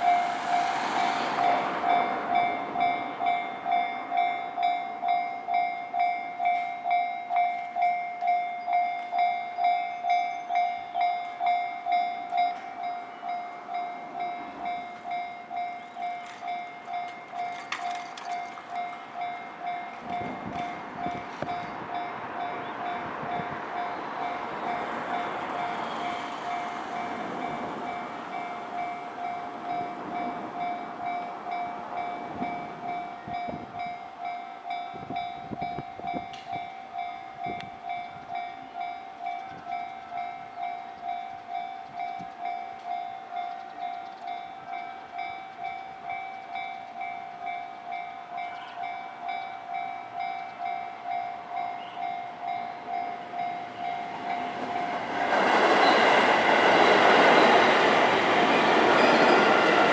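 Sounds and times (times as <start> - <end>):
train rumbling over crossing: 0.0 - 59.9.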